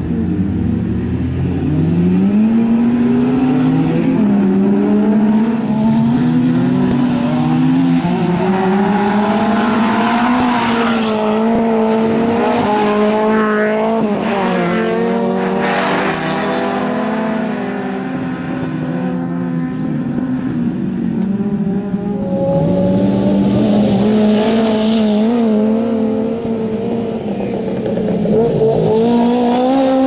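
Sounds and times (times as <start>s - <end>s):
racing car engines: 0.0s - 30.0s.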